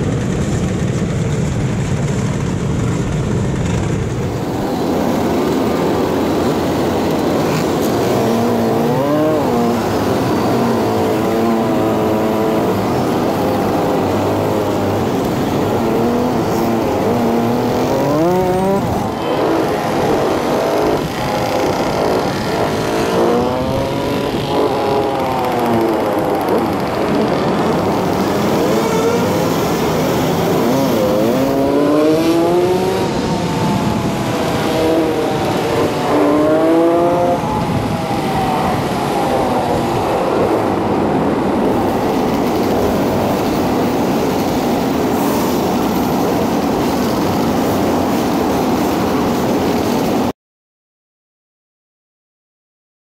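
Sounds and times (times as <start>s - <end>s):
scooter engines revving: 0.0s - 50.3s
wind and road noise: 0.0s - 50.3s.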